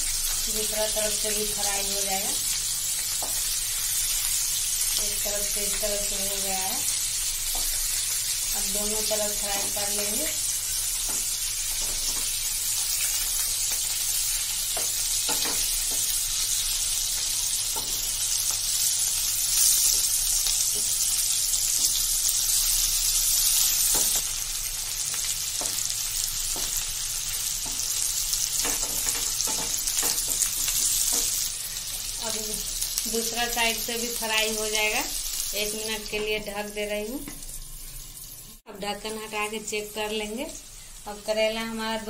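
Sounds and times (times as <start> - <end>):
food sizzling in oil: 0.0 - 42.0.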